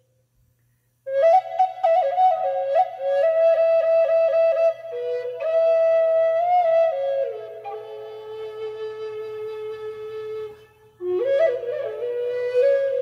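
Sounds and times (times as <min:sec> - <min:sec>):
wooden flute melody: 0:01.1 - 0:13.0.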